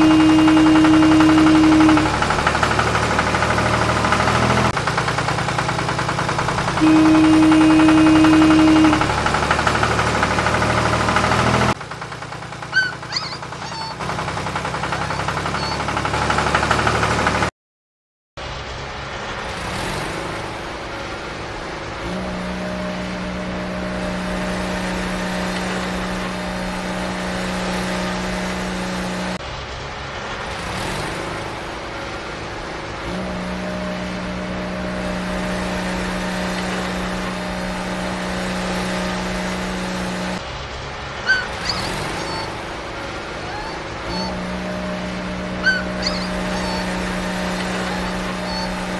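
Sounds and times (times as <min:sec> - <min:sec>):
heavy machine engine running: 0:00.0 - 0:17.5, 0:18.4 - 0:48.9.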